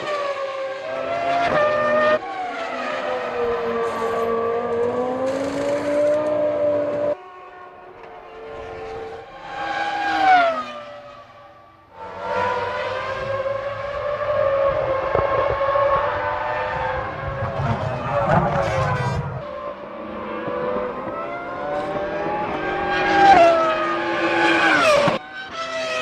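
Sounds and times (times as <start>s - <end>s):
race car engine whine: 0.0s - 26.0s
race car passing: 0.0s - 26.0s.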